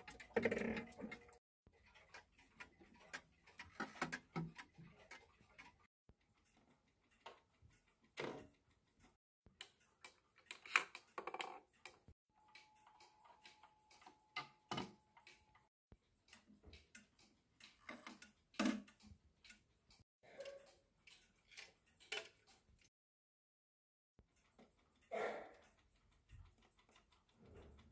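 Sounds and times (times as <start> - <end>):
clock movement clicks: 0.0 - 22.9, 24.2 - 27.9
wall clocks ticking: 0.0 - 22.9, 24.2 - 27.9.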